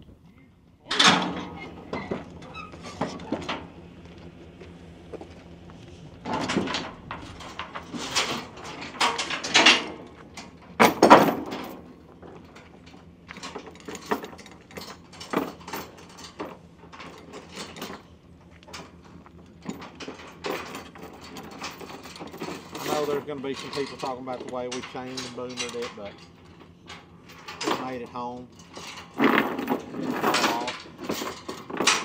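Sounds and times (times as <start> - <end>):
chains clanking on wooden deck: 0.9 - 4.6, 6.2 - 32.0.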